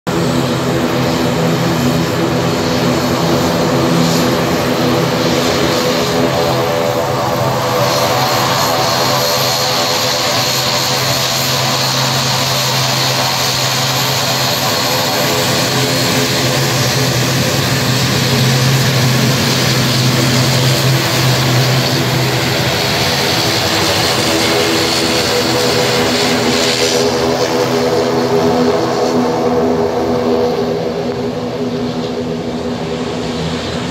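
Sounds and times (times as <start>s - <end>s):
high turbine whine: 0.1s - 33.9s
propeller drone: 0.1s - 33.9s.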